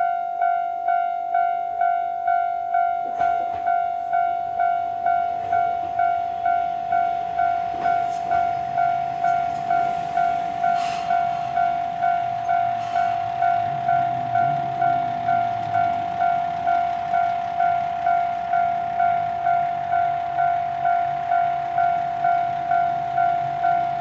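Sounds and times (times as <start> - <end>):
diesel railcar engine hum: 0.0 - 24.0
level crossing alarm bell ringing: 0.0 - 24.0.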